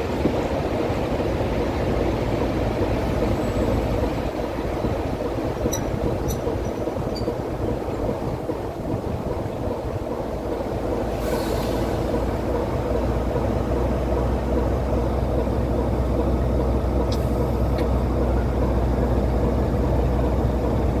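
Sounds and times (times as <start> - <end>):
diesel locomotive engine drone: 0.0 - 21.0
wheels rumbling on track: 0.0 - 21.0.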